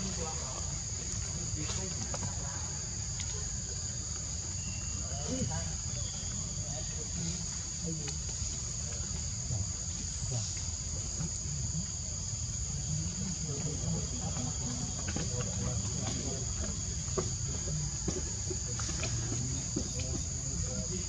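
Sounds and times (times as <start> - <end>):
forest insects droning: 0.0 - 21.0.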